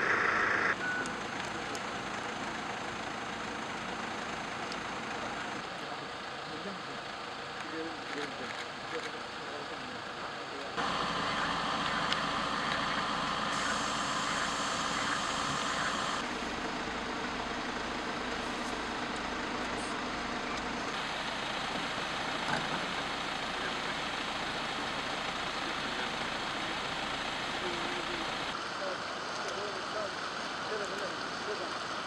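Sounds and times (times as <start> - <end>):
outdoor noise: 0.0 - 32.0
vehicle engine idling: 0.0 - 32.0.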